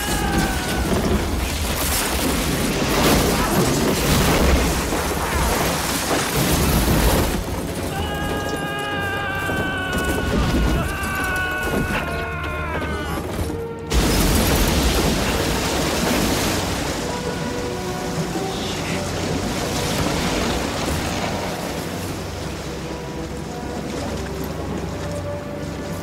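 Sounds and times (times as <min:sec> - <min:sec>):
heavy rumbling: 0:00.0 - 0:25.2.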